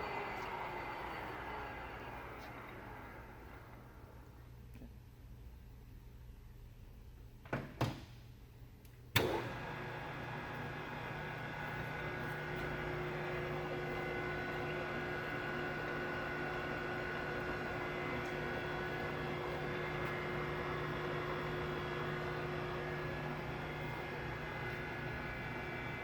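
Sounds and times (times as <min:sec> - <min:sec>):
lathe humming with whine: 0:00.0 - 0:04.4, 0:09.2 - 0:26.0.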